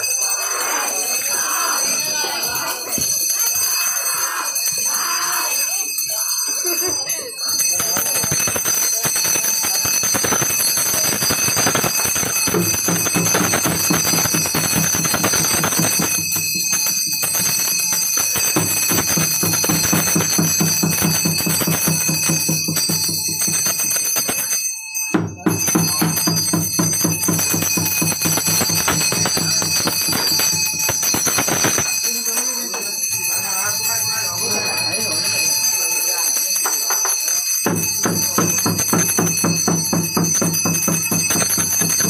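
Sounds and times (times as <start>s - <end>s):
metal bell ringing rapidly: 0.0s - 42.0s.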